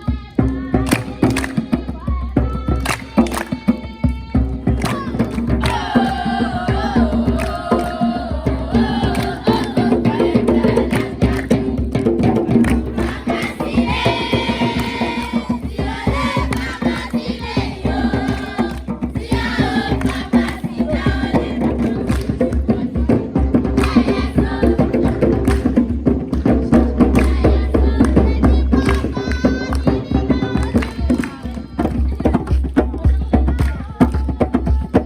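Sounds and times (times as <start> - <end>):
rhythmic percussion: 0.0 - 35.0.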